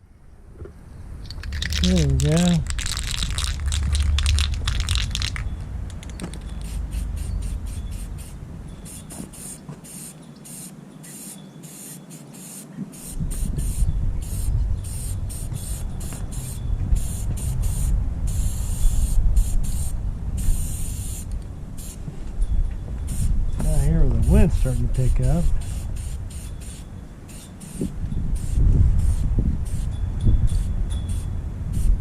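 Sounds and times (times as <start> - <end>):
wind rumbling on microphone: 0.0 - 9.4, 12.8 - 32.0
spray paint hissing: 1.2 - 22.0, 23.1 - 29.9, 30.5 - 31.9.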